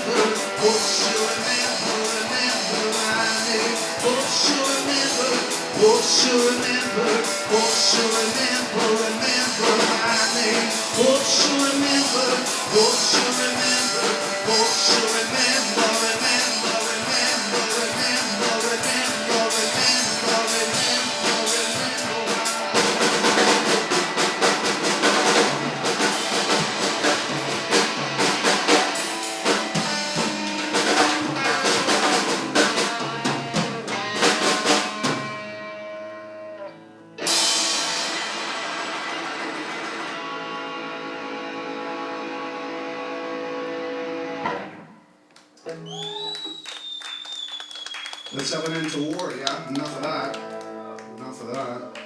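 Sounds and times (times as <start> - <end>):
busy drum kit: 0.0 - 35.8, 37.2 - 41.2, 48.3 - 52.0
live rock band playing: 0.0 - 45.0, 48.0 - 52.0.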